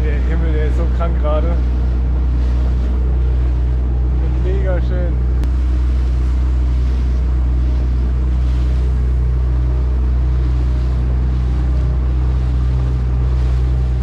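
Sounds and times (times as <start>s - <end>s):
boat engine running: 0.0s - 14.0s
water rushing: 0.0s - 14.0s
wind: 0.0s - 14.0s.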